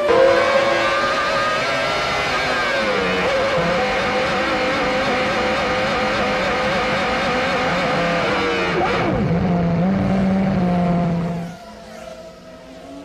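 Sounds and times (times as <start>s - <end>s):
race car screaming past: 0.0s - 6.3s, 7.5s - 13.0s
race car engines at high revs: 0.0s - 13.0s.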